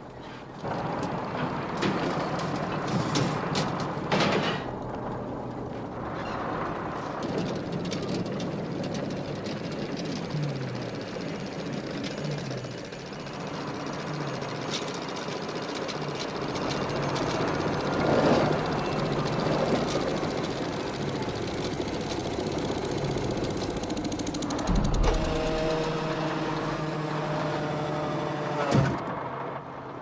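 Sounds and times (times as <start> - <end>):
heavy vehicle engine rumbling: 0.0 - 30.0.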